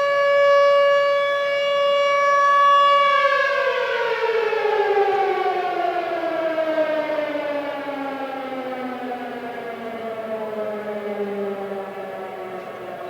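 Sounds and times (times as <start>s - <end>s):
air raid siren winding down: 0.0s - 13.0s.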